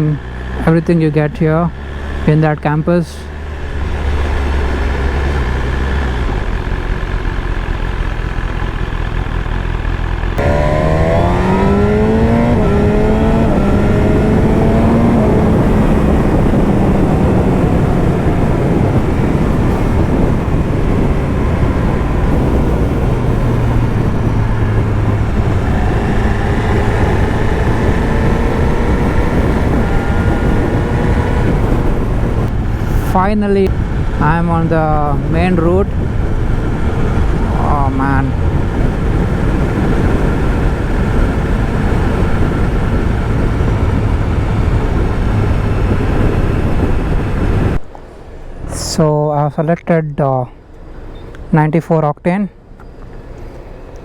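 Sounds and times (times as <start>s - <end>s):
motorcycle engine accelerating: 0.0s - 49.2s
road and wind noise: 0.0s - 54.0s.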